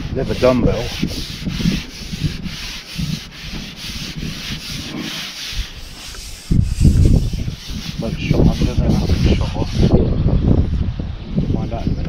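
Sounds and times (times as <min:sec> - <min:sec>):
rough rubbing hiss: 0:00.0 - 0:10.0
wind buffeting microphone: 0:00.0 - 0:12.0.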